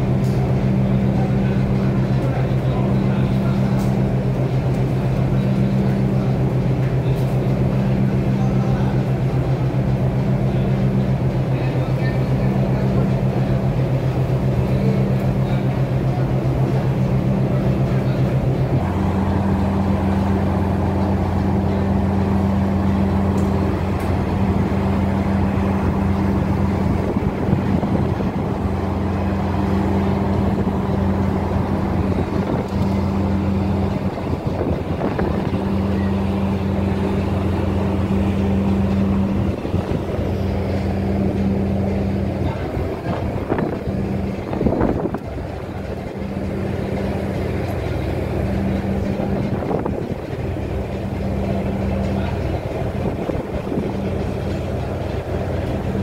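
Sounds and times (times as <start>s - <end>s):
ship diesel engines droning: 0.0s - 56.0s.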